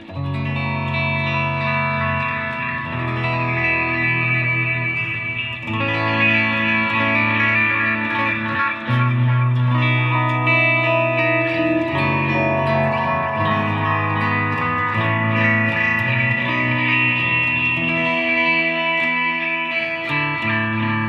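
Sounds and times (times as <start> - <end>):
electric guitar chords ringing: 0.0 - 21.0.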